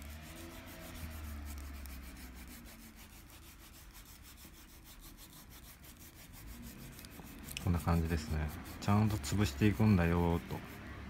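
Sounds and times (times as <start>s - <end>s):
loofah rubbing leather edge: 0.0s - 11.0s.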